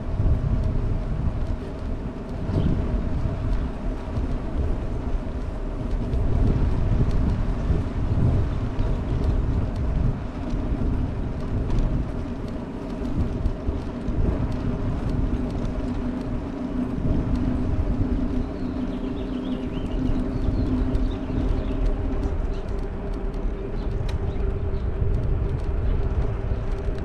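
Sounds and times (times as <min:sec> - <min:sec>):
vehicle hum: 0:00.0 - 0:27.0
wind buffeting microphone: 0:00.0 - 0:27.0.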